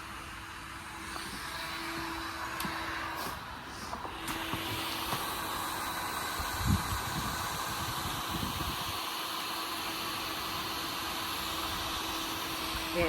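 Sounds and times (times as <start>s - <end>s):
machine whirring hum: 0.0s - 13.0s.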